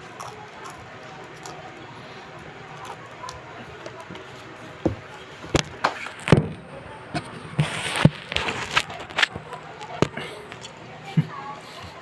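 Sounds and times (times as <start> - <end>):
crunching of crispy food: 0.0 - 10.9.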